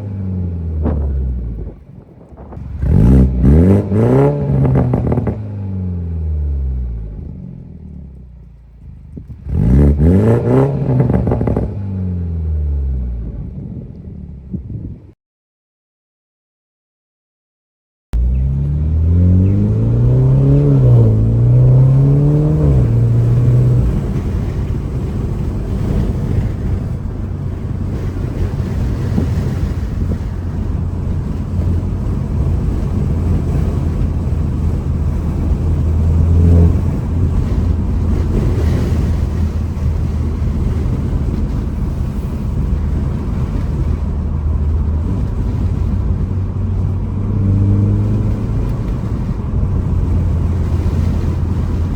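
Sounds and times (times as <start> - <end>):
car engine accelerating: 0.0 - 14.7, 18.2 - 51.9
road and wind noise: 0.0 - 15.2, 18.2 - 51.9.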